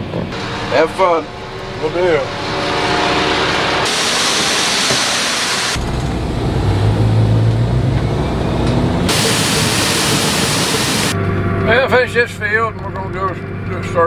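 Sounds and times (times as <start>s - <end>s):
truck cab engine hum: 0.3s - 11.6s.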